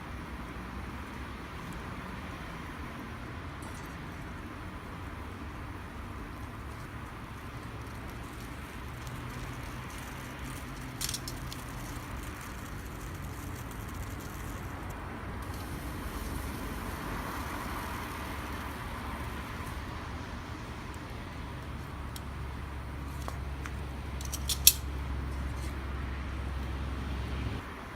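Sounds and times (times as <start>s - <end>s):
campfire burning: 0.0s - 27.9s.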